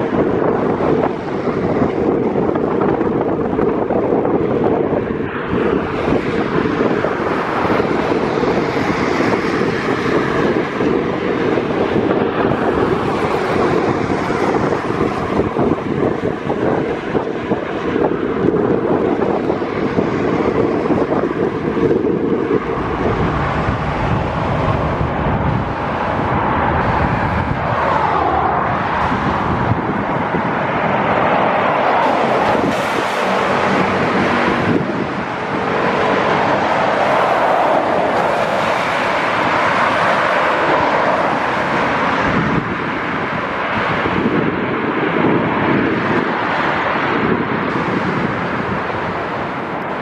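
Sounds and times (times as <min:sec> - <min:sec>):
motorway traffic: 0:00.0 - 0:50.0
wind rumble on microphone: 0:00.0 - 0:50.0.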